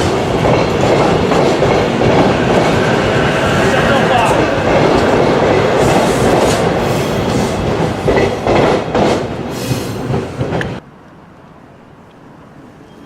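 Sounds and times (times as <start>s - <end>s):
wheels clacking over rail joints: 0.0s - 10.8s
train wheel and rail noise: 0.0s - 13.0s.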